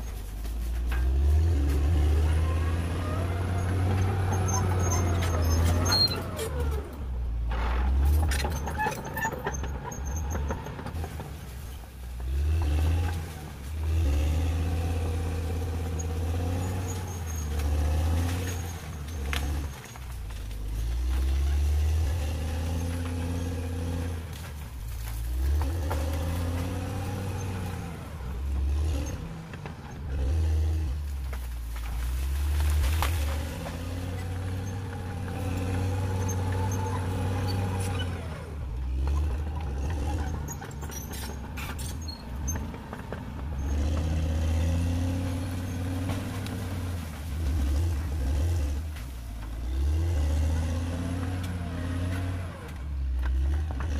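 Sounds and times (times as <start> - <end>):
bulldozer diesel engine revving: 0.0 - 53.9.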